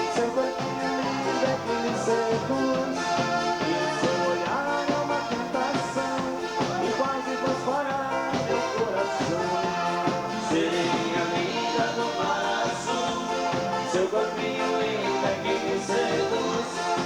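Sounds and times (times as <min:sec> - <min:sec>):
live dance band playing: 0:00.0 - 0:17.0.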